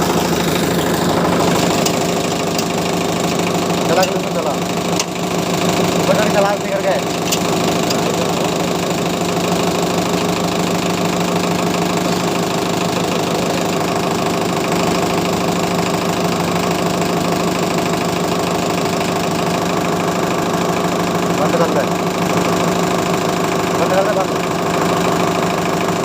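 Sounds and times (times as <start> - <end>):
diesel tractor engine idling: 0.0 - 26.0.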